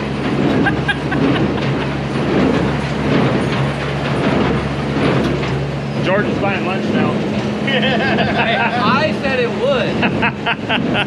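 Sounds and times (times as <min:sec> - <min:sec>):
baler running with mechanical clatter: 0:00.0 - 0:11.0.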